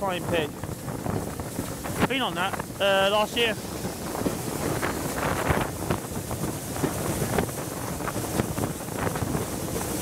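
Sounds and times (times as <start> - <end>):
train running noise: 0.0 - 10.0
wind buffeting microphone: 0.0 - 10.0.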